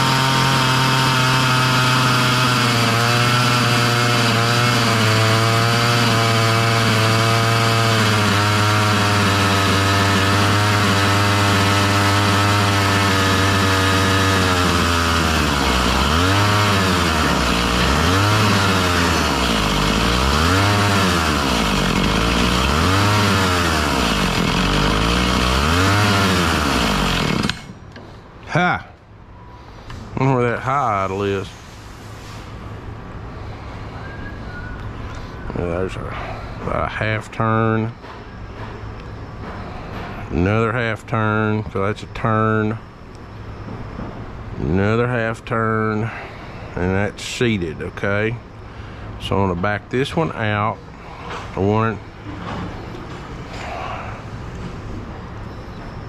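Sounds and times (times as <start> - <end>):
chainsaw engine idling and hunting: 0.0 - 28.9, 30.2 - 31.6, 34.9 - 56.0.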